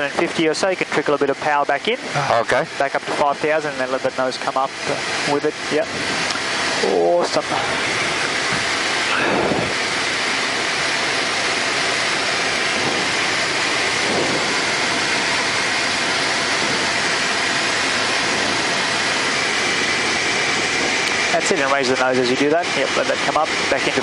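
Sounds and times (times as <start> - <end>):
airflow noise: 0.0 - 24.0
faint steady whine: 0.0 - 24.0
light aircraft engine and propeller: 0.0 - 24.0.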